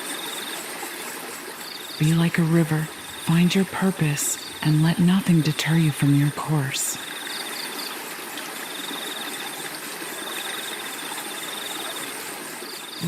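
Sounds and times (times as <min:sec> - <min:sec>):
crickets trilling: 0:00.0 - 0:13.0
river water rushing: 0:00.0 - 0:13.0.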